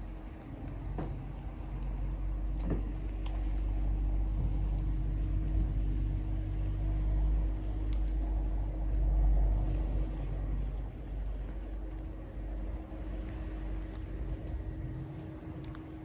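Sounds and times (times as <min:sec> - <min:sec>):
low steady rumble and hum: 0:00.0 - 0:16.0.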